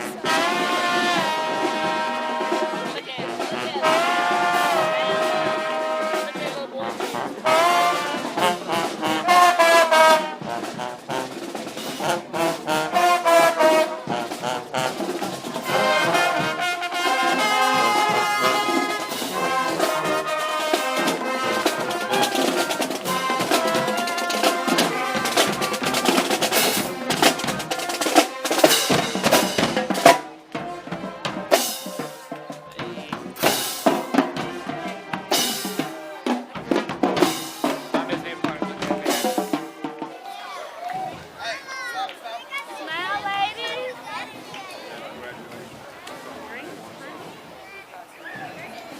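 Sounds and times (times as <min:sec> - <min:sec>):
trumpets and trombones: 0:00.0 - 0:40.7.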